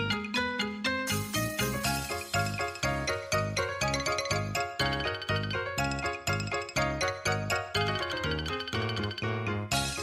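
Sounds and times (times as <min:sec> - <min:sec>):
bell-like melody over bass: 0:00.0 - 0:10.0.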